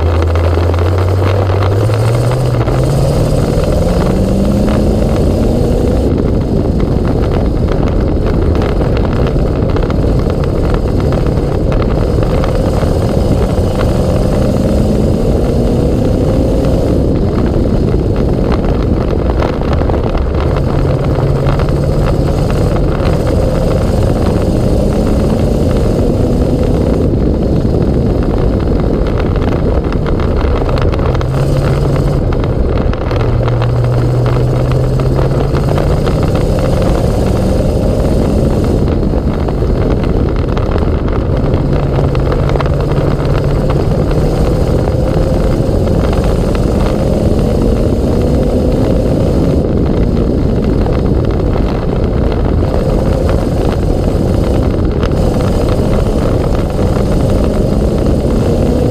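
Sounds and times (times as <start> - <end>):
race car engine accelerating: 0.0 - 58.9.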